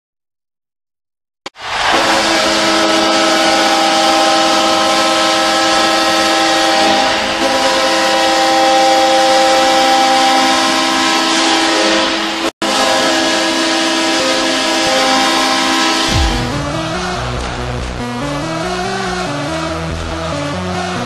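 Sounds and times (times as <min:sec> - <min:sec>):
goal horn blast: 0:01.5 - 0:19.3.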